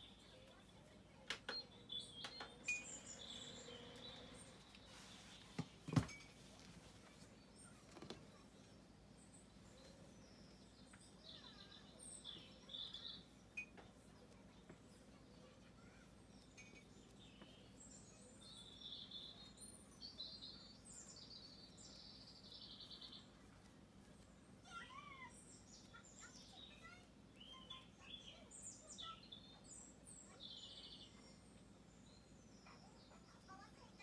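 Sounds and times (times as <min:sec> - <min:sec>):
faint birdsong chirps and trills: 0:00.0 - 0:34.0.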